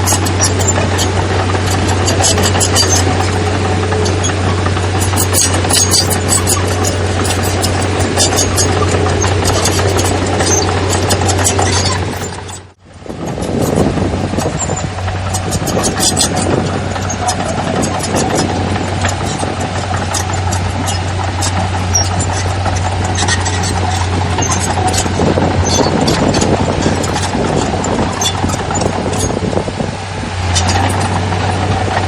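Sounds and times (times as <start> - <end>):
diesel earthmoving machinery running: 0.0 - 32.0
metal clanks and rattles: 0.0 - 32.0.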